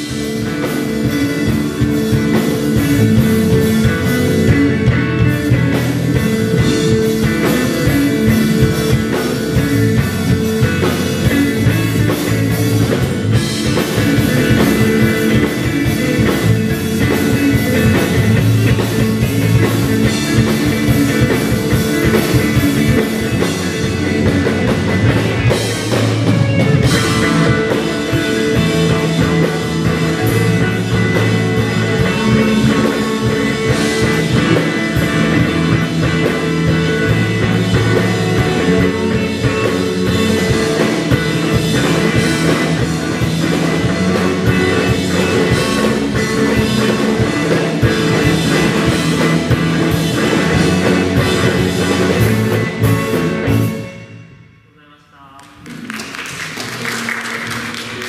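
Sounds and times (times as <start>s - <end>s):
drum kit: 0.0s - 54.1s
electric guitars: 0.0s - 54.6s, 55.4s - 58.0s
electric bass: 0.0s - 54.7s.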